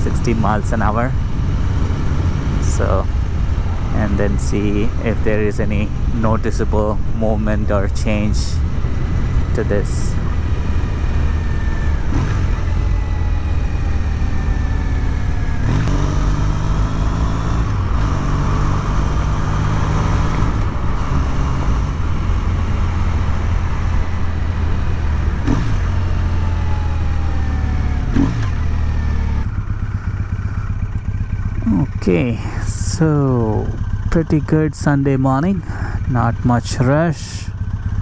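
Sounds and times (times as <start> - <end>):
motorcycle engine running: 0.0 - 38.0
wind and road noise: 0.0 - 38.0.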